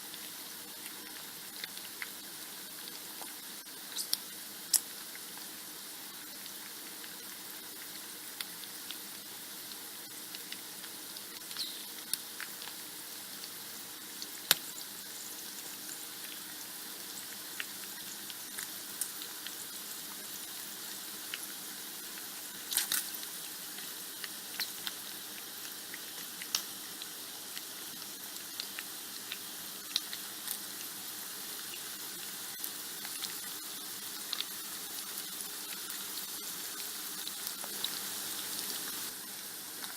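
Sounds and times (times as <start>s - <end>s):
bacon sizzling in a pan: 0.0s - 39.9s
fat crackling and popping: 0.1s - 39.9s.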